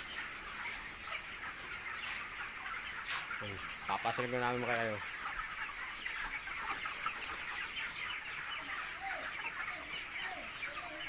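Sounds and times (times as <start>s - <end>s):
chickens clucking and peeping: 0.0s - 11.0s.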